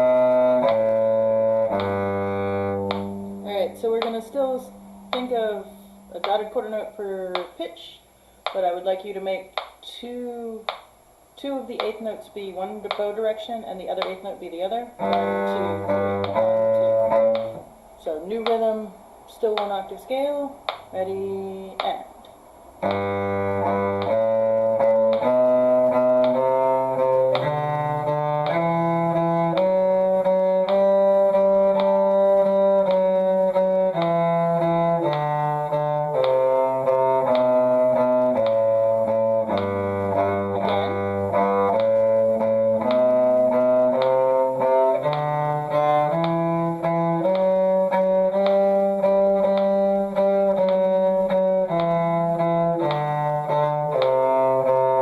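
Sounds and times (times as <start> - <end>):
bowed strings playing a scale: 0.0 - 7.6, 11.6 - 22.0, 22.7 - 55.0.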